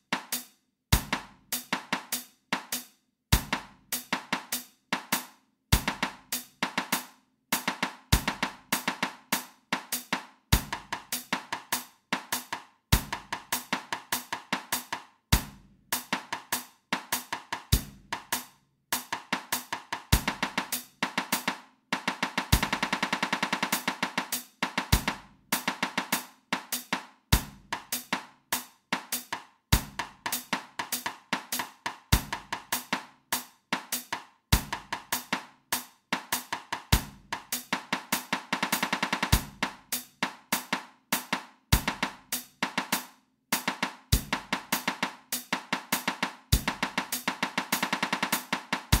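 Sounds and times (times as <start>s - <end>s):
snare drum rhythm: 0.0s - 49.0s.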